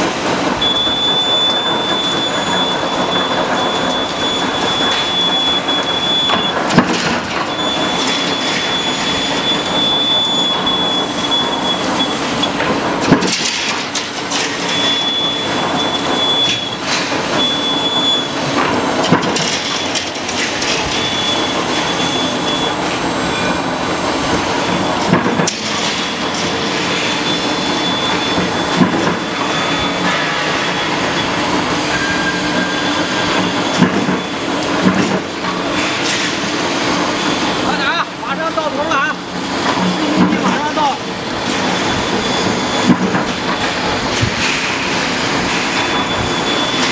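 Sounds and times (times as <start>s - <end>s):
roll forming machine running: 0.0s - 46.9s.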